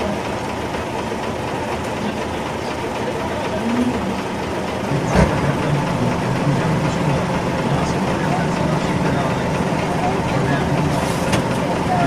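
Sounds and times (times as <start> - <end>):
diesel truck engines: 0.0 - 12.0.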